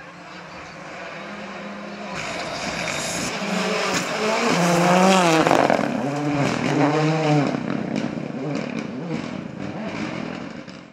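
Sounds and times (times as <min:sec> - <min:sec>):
rally car engine revving: 0:00.8 - 0:10.9.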